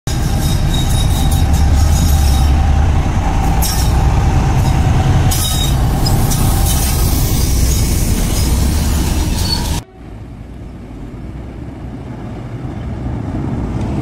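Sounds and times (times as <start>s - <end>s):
diesel locomotive engine rumbling: 0.0s - 14.0s
train wheels on rails: 0.1s - 14.0s.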